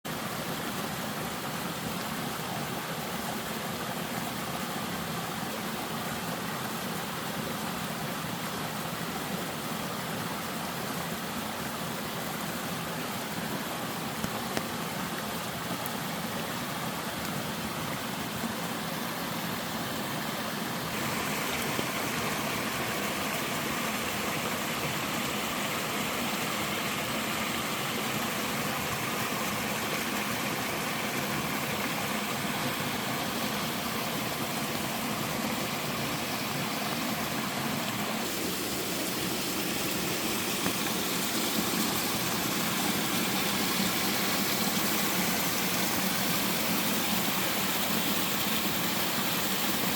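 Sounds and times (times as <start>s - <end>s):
water rushing over rock: 0.1s - 49.9s.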